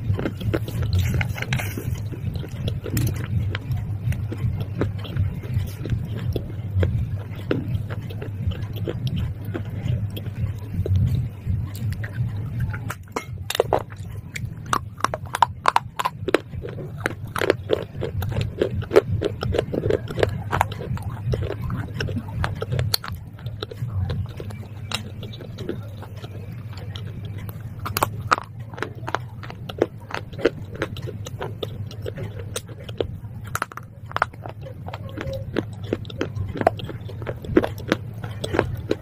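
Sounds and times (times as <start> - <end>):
crunching and chewing: 0.0 - 39.0
low steady hum: 0.0 - 39.0.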